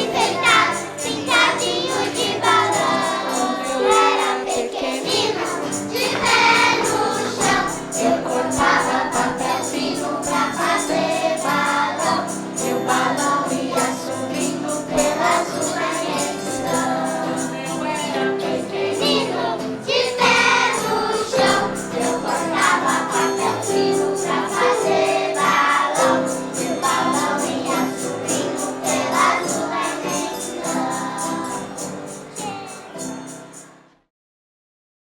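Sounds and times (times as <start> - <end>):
group singing over a beat: 0.0 - 32.4.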